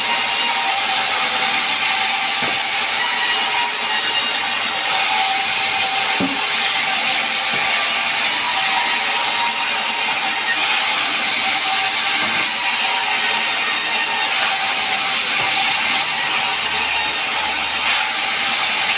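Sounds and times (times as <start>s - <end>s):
sawmill saw rasping through timber: 0.0s - 18.9s.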